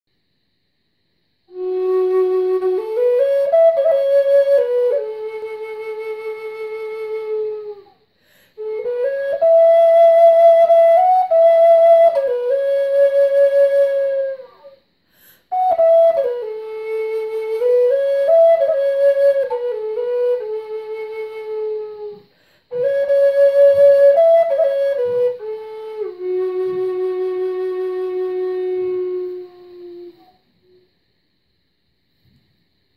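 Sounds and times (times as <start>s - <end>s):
wooden flute slow melody: 1.5s - 31.0s.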